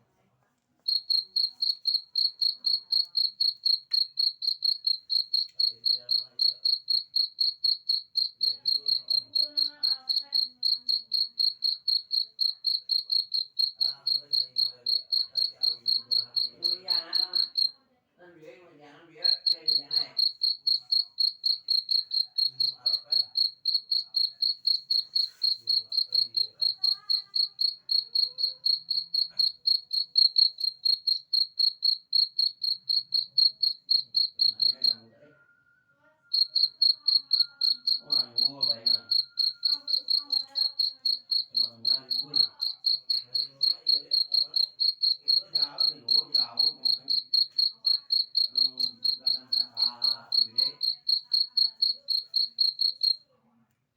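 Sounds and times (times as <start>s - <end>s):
cricket chirping: 0.8s - 17.8s, 19.1s - 35.2s, 36.2s - 53.2s.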